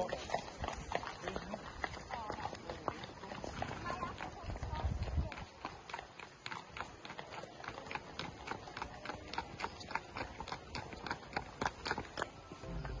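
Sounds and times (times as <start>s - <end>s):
hooves clip-clopping on tarmac: 0.0s - 13.0s.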